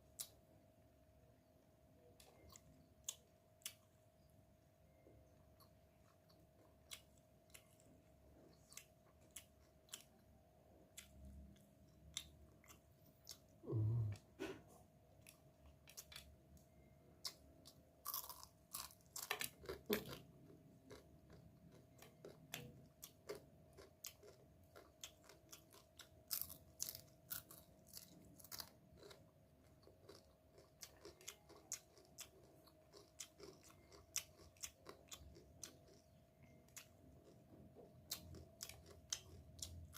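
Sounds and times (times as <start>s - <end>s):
chewing and crunching: 2.0s - 4.2s, 4.9s - 13.6s, 15.1s - 39.9s.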